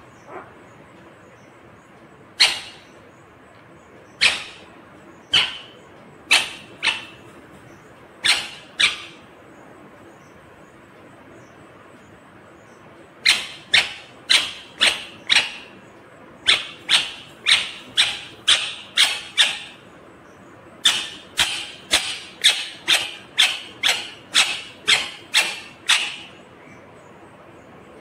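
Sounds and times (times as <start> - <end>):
parakeet calling: 0.0 - 1.6, 2.2 - 9.4, 12.6 - 27.2.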